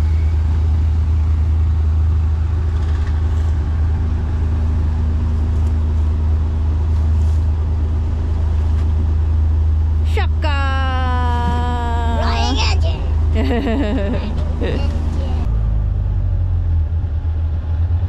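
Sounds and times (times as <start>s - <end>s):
rattling ride noise: 0.0s - 15.6s
vehicle engine droning: 0.0s - 18.0s.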